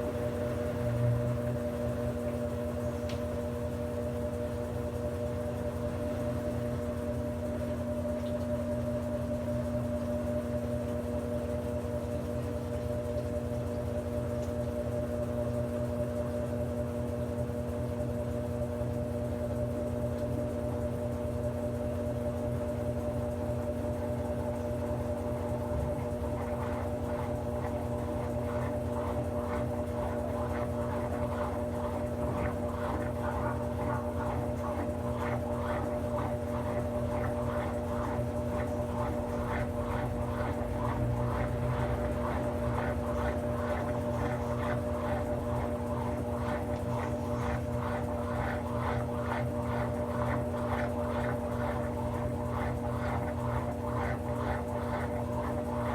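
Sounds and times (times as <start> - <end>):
washing machine hum and swishing: 0.0 - 55.9.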